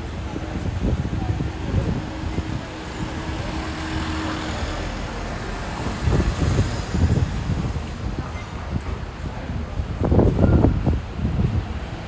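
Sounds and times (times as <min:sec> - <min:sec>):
heavy low rumbling traffic: 0:00.0 - 0:12.0.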